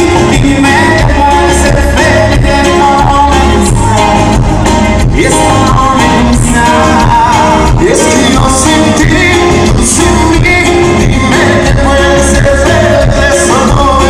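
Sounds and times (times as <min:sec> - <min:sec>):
live band music: 0:00.0 - 0:14.0
person singing: 0:00.0 - 0:14.0.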